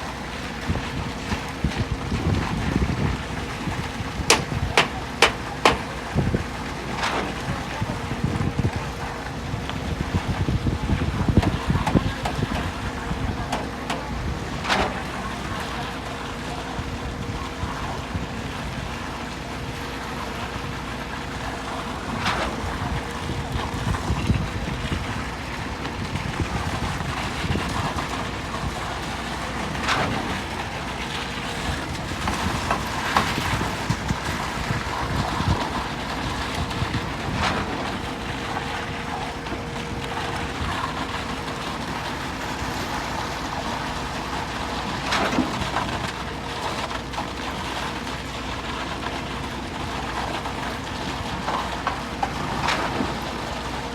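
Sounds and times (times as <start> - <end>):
concrete pump running: 0.0 - 53.9.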